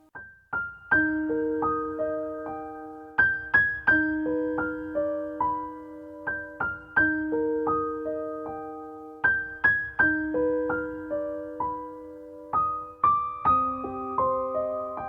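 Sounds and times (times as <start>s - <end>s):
gentle piano piece: 0.0s - 15.0s.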